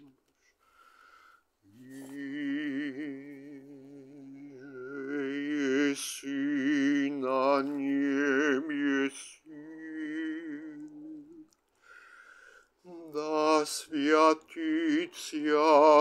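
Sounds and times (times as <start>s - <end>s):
man singing long held notes: 1.7s - 11.5s, 12.9s - 16.0s.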